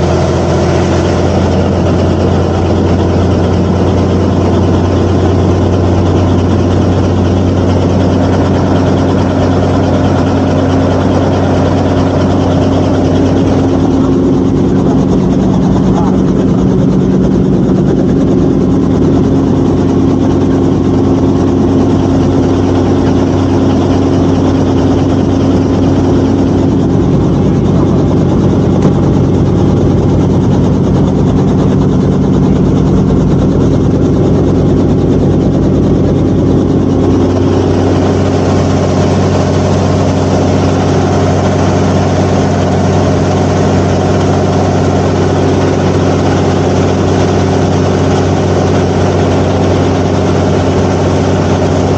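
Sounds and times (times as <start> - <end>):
helicopter engine and rotor drone: 0.0 - 51.9.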